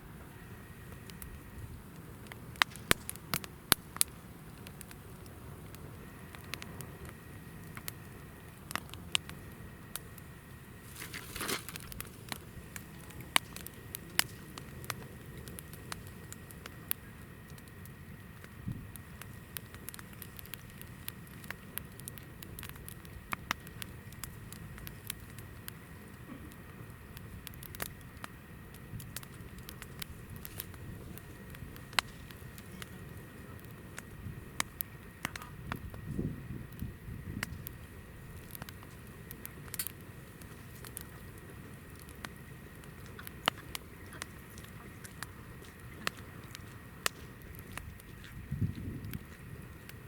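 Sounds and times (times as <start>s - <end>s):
campfire crackling and popping: 0.0s - 50.0s
low steady flame noise: 0.0s - 50.0s
low steady rumble: 0.0s - 50.0s.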